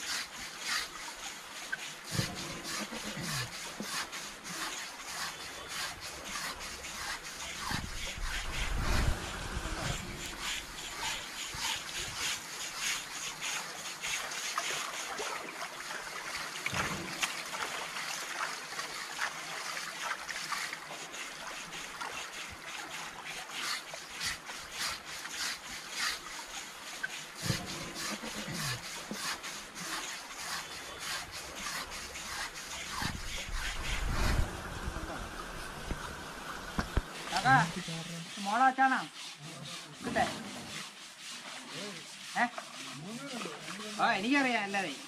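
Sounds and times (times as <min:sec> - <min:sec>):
water splashing and trickling: 0:00.0 - 0:45.0
wet rubbing strokes: 0:00.0 - 0:45.0.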